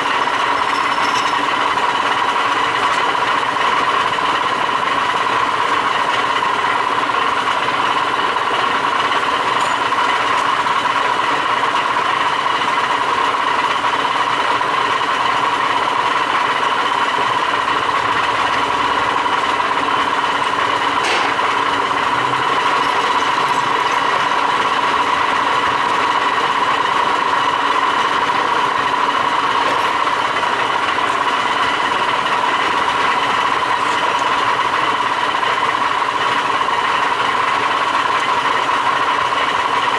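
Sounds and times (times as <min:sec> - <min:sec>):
lathe humming and whining: 0:00.0 - 0:39.9.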